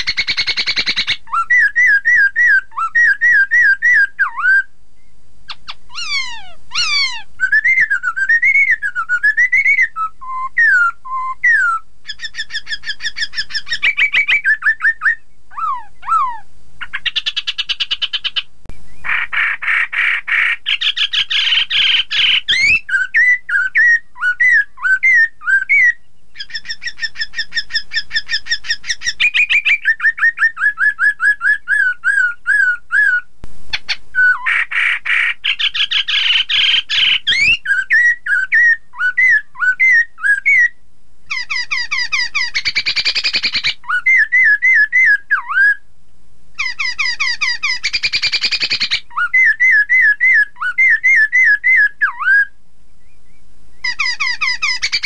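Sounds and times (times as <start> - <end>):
fast trilling bird chatter: 0.0 - 4.6, 5.5 - 10.0, 11.5 - 25.2, 26.4 - 33.1, 33.7 - 40.7, 41.3 - 45.1, 46.6 - 51.9, 53.8 - 55.0
bird singing with whistled notes: 0.0 - 45.9, 46.6 - 55.0.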